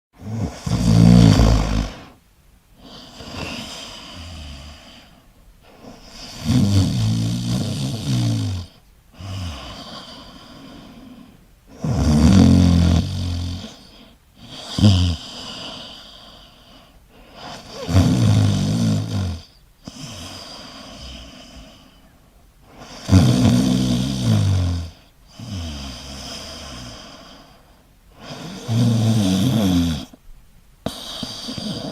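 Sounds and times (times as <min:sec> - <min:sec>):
person snoring: 0:00.2 - 0:02.2, 0:02.8 - 0:22.0, 0:22.7 - 0:27.6, 0:28.2 - 0:30.2, 0:30.9 - 0:31.9
quiet breath: 0:00.4 - 0:06.5, 0:08.1 - 0:11.8, 0:13.2 - 0:17.9, 0:19.0 - 0:23.2, 0:24.0 - 0:28.8, 0:29.6 - 0:31.9.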